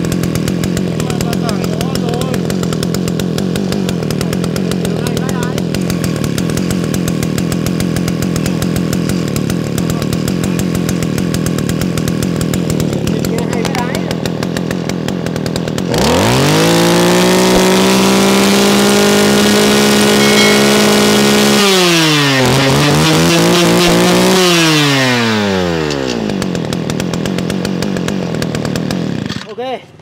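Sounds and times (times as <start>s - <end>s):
brush cutter engine revving: 0.0s - 29.8s.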